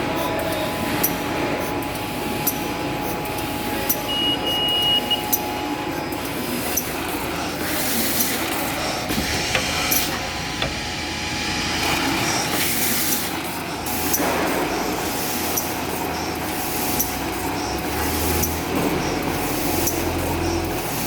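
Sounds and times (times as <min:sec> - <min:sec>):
bag-making machine running: 0:00.0 - 0:21.0.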